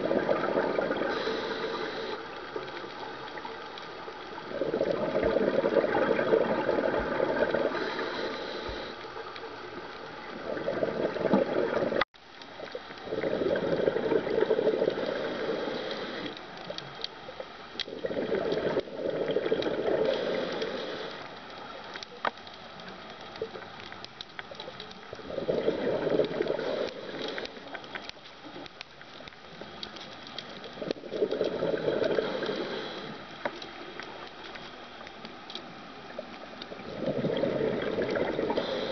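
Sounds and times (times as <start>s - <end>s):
exhaled bubbles gurgling underwater: 0.0s - 22.2s, 22.8s - 38.9s
faint clicks: 0.7s - 38.9s.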